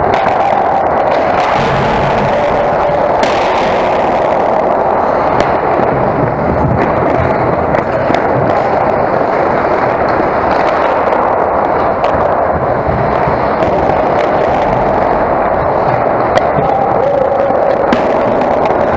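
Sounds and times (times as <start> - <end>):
hockey sticks and puck clacking: 0.0 - 18.9
skates scraping on ice: 0.0 - 18.9.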